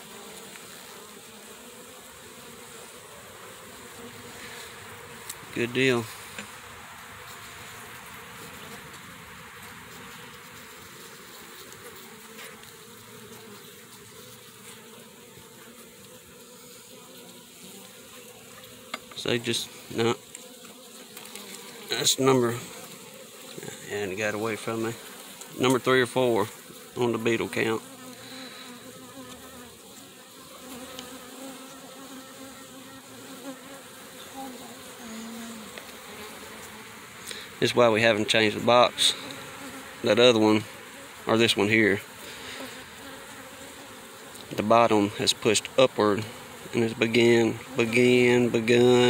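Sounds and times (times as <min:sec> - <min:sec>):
honeybees buzzing: 0:00.0 - 0:49.0.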